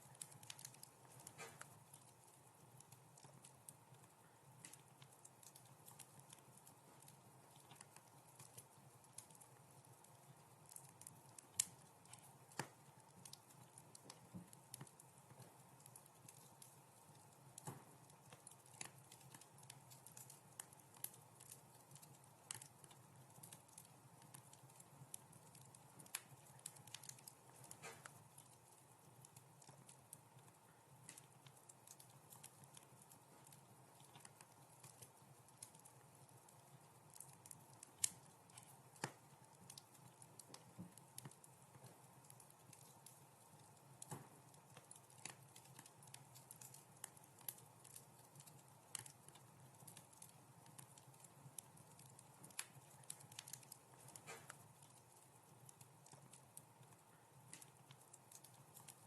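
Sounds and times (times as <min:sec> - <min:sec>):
faint wood fire crackling: 0:00.0 - 0:59.0.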